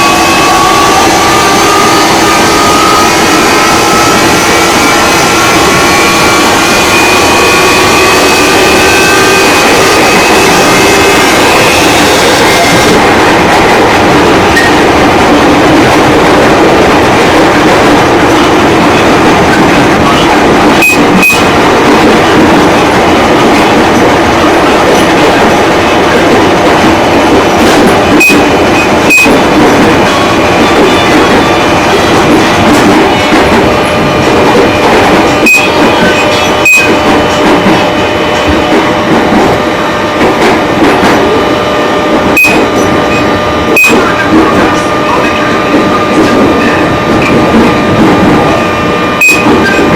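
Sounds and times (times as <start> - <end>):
electric train running: 0.0 - 49.9
wheels clacking over rail joints: 3.2 - 41.4, 42.0 - 49.9.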